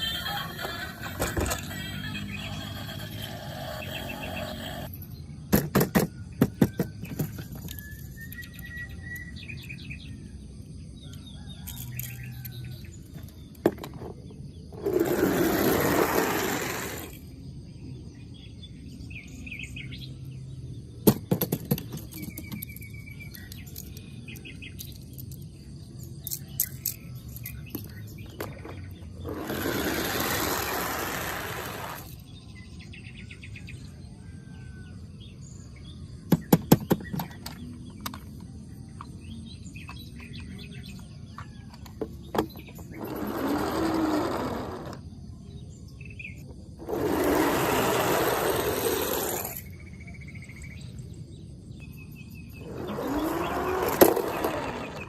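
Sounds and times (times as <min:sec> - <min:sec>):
faint birds chirping: 0:00.0 - 0:55.0.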